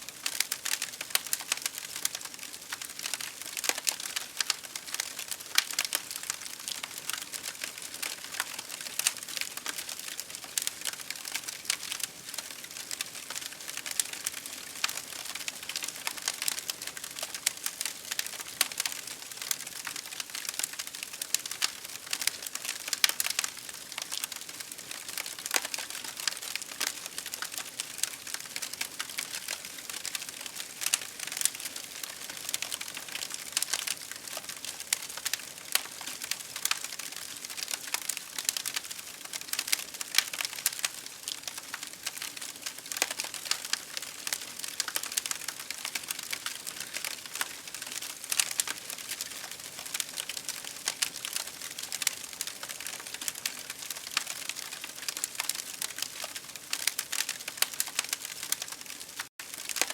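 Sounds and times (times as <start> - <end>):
wood campfire crackling: 0.1 - 59.9.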